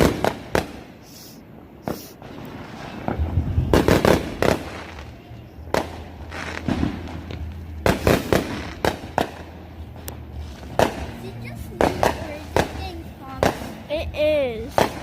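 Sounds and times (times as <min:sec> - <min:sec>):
fireworks and firecrackers banging: 0:00.0 - 0:15.0.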